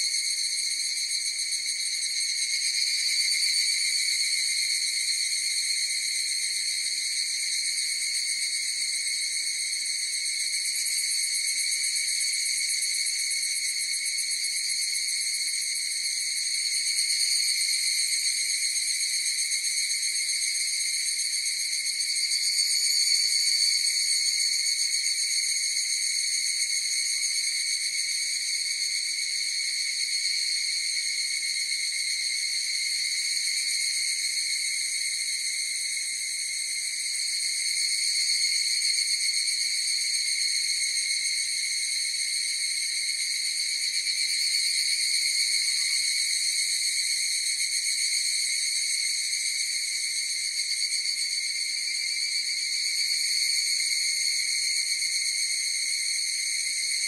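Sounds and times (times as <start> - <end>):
cicadas chorus ringing drone: 0.0 - 57.0.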